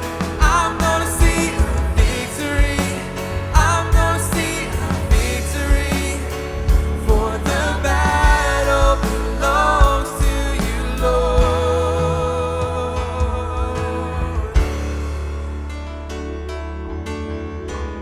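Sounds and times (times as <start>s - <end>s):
worship band playing: 0.0s - 16.6s.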